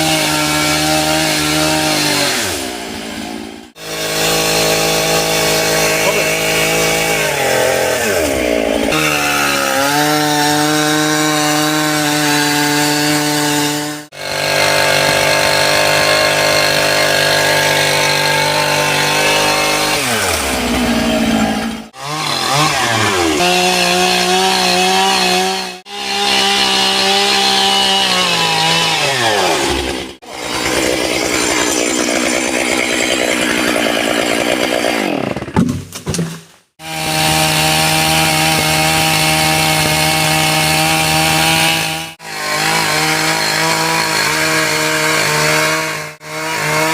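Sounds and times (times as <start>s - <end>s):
chainsaw cutting into tree: 0.0s - 46.9s.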